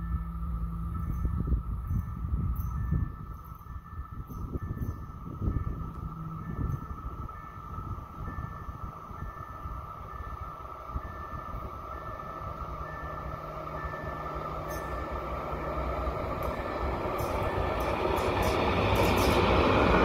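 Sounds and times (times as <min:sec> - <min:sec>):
approaching train rumble: 0:00.0 - 0:20.0.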